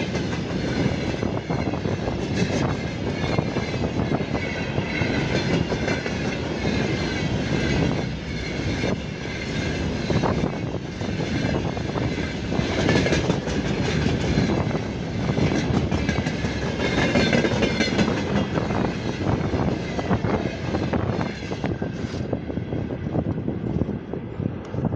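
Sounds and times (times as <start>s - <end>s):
train wheels clattering: 0.0s - 22.2s.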